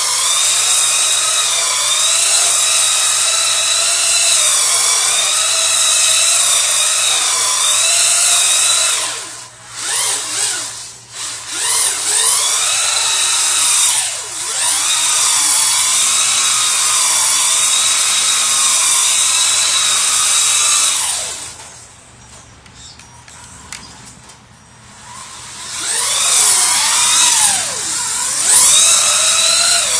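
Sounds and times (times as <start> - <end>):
toy truck electric motor whining: 0.0 - 21.8, 24.9 - 29.9.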